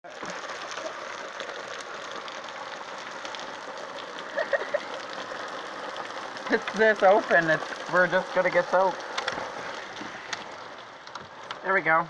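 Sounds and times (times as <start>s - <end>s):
heavy rain pouring: 0.0s - 11.9s.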